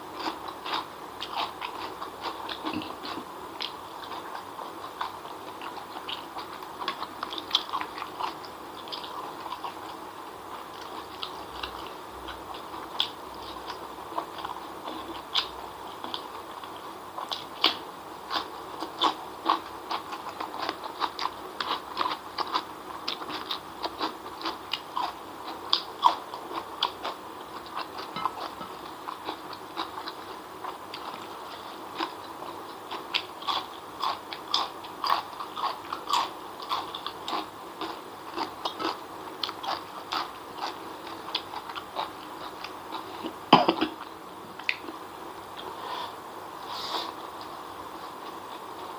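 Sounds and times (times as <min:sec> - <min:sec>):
person chewing and smacking: 0:00.1 - 0:45.7.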